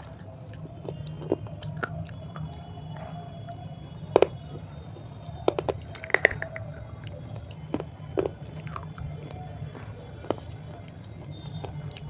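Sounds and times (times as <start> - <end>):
crunchy chewing: 0.0 - 12.0
steady low hum: 0.0 - 12.0.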